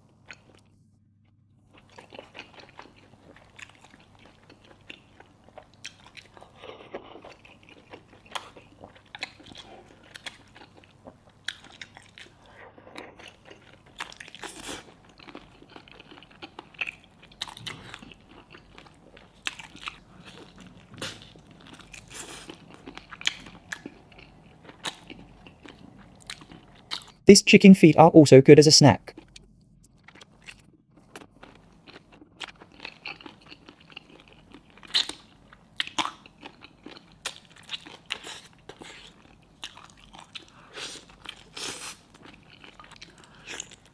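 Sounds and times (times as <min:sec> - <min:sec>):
person chewing and crunching: 0:00.1 - 0:00.8, 0:01.7 - 0:27.2, 0:29.1 - 0:43.9.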